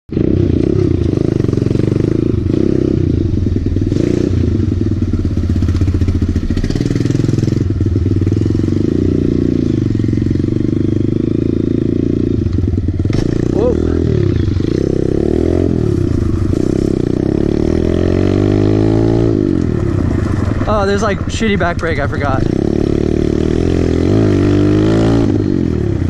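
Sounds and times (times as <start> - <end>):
motorbike engine revving: 0.1 - 26.0.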